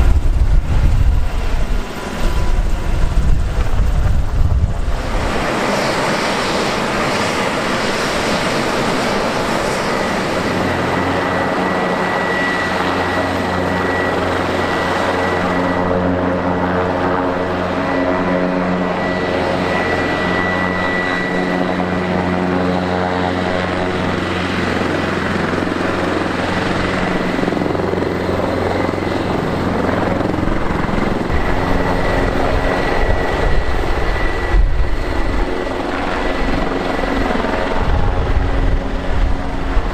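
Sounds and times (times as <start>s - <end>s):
helicopter rotor beat: 0.0s - 39.9s
high turbine whine: 0.0s - 39.9s.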